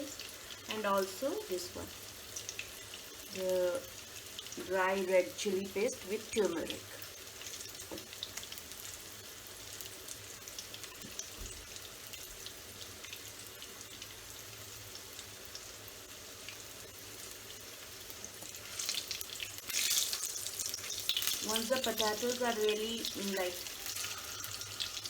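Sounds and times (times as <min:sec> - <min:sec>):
potatoes sizzling in hot oil: 0:00.0 - 0:25.0.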